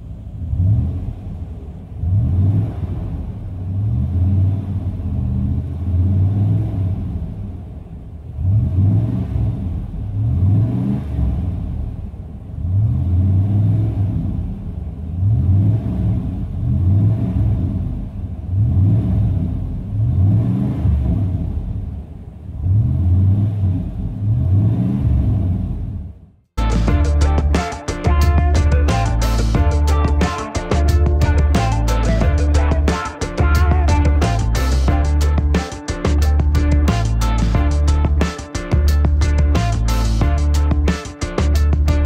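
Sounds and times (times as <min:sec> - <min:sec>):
truck engine accelerating: 0:00.0 - 0:42.0.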